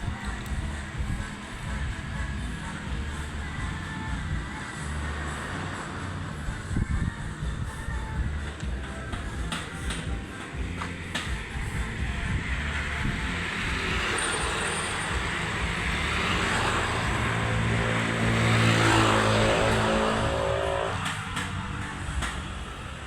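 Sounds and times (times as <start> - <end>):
motor vehicle passing: 0.0 - 23.0.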